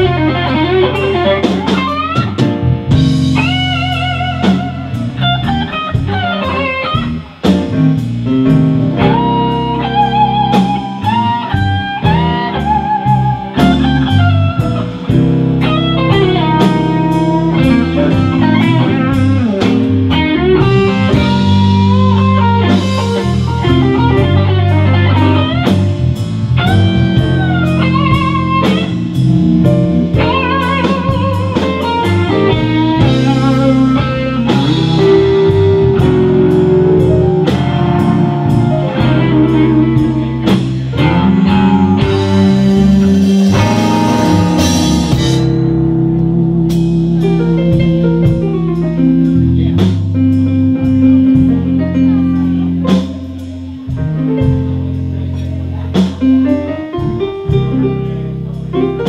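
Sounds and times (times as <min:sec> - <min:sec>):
drum kit steady beat: 0:00.0 - 0:59.0
electric guitar blues solo: 0:00.0 - 0:59.0.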